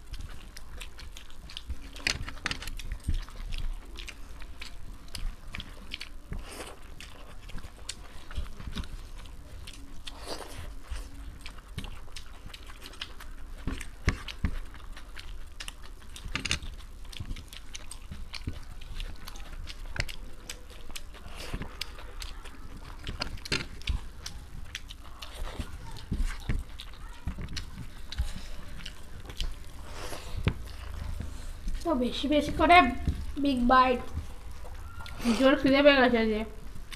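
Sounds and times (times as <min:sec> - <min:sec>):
people chewing and smacking: 0:00.0 - 0:36.9.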